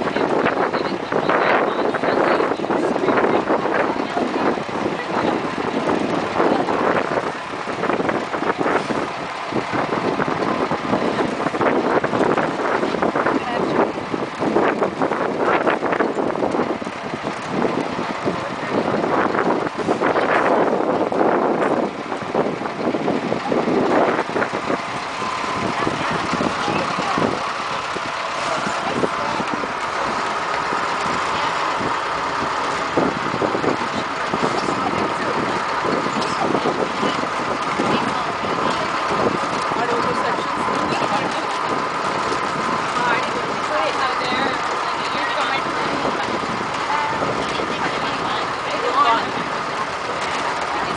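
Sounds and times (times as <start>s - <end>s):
faint chatter of riders: 0.0s - 50.9s
truck driving: 0.0s - 50.9s
wagon and towing vehicle running: 0.0s - 50.9s
wind buffeting microphone: 0.0s - 50.9s.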